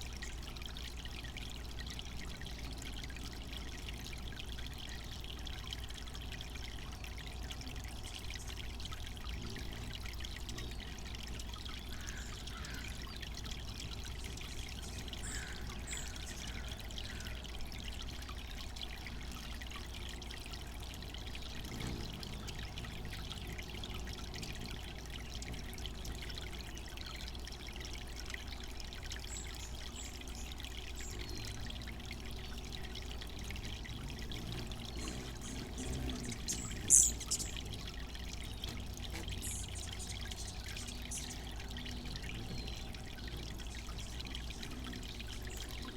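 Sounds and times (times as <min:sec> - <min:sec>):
fountain water trickling: 0:00.0 - 0:45.9.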